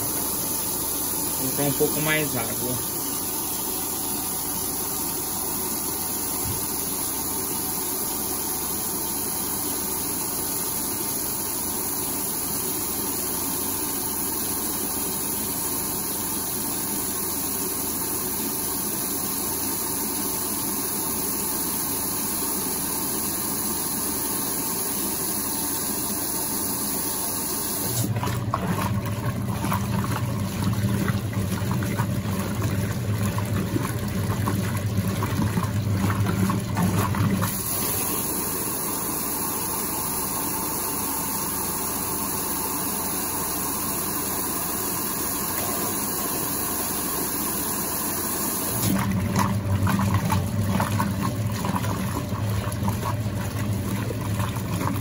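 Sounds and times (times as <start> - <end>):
washing machine filling with water: 0.0 - 55.0
washing machine motor humming: 0.0 - 55.0.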